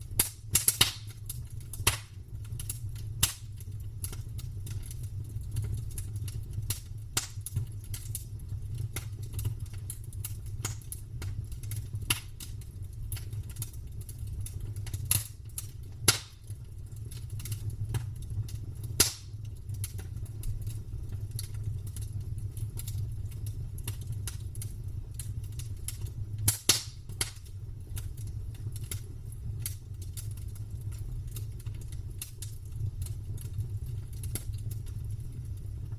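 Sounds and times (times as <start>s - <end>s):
campfire crackling and popping: 0.0s - 35.9s
low rumble of flames: 0.0s - 35.9s.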